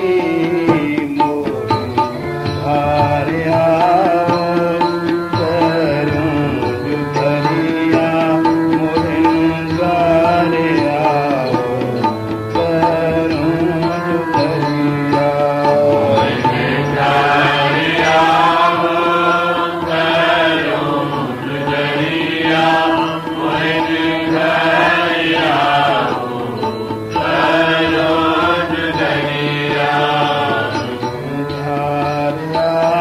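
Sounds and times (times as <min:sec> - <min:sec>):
devotional melody: 0:00.0 - 0:33.0.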